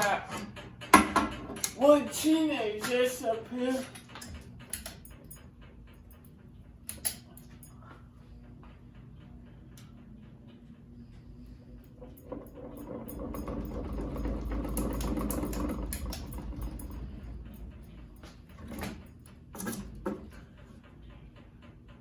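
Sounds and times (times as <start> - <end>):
clicks and rattles: 0.0 - 7.8, 11.7 - 22.0.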